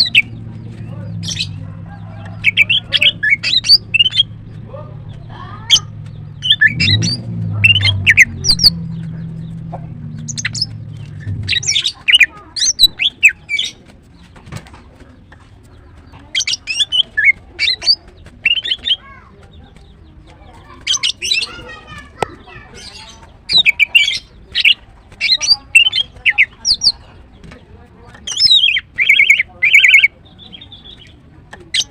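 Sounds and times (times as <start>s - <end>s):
bird chirping and squawking: 0.0s - 14.3s, 15.7s - 27.1s, 28.2s - 31.9s.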